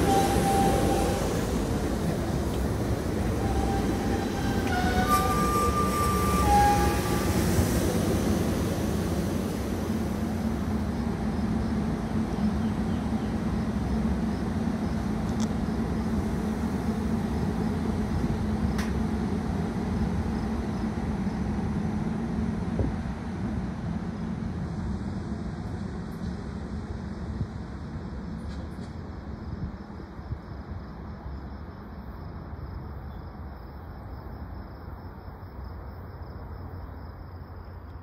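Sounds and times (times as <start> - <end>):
train rumbling past on rails: 0.0 - 38.0.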